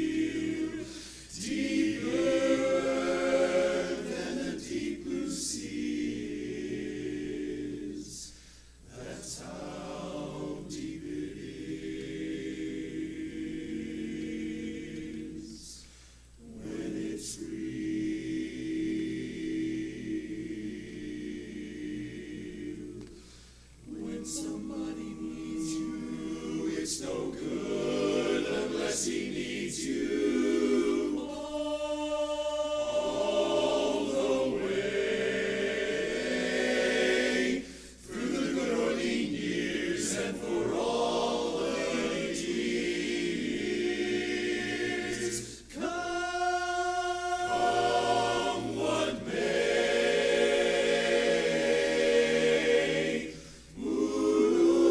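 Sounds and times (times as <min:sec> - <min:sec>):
barbershop chorus singing: 0:00.0 - 0:15.8, 0:16.4 - 0:54.9.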